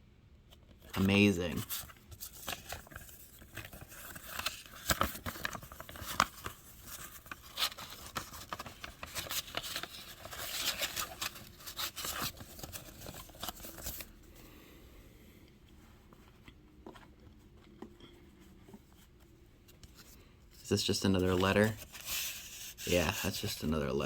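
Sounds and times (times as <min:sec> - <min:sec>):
paper rustling: 0:00.6 - 0:14.3, 0:15.8 - 0:24.0.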